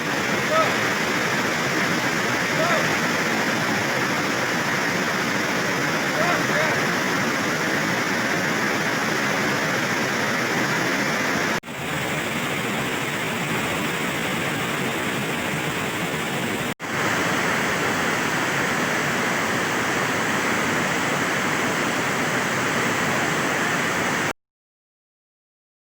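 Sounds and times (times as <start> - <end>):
waterfall rushing: 0.0 - 24.3.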